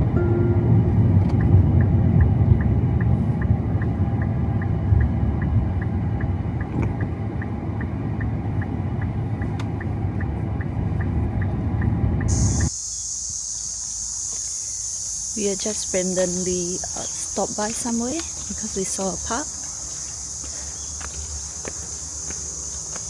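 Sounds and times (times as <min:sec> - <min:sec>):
car road rumble: 0:00.0 - 0:12.8, 0:13.6 - 0:23.0
turn signal ticking: 0:00.0 - 0:12.8, 0:15.7 - 0:23.0.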